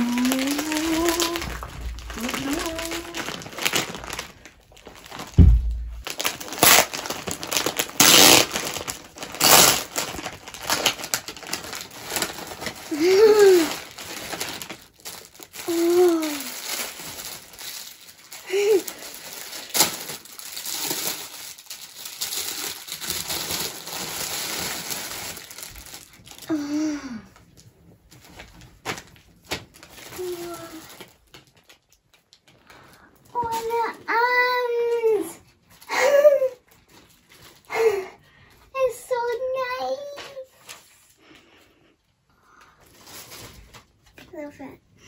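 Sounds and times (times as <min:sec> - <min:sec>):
plastic wrapping crinkling: 0:00.0 - 0:41.4, 0:42.5 - 0:44.6.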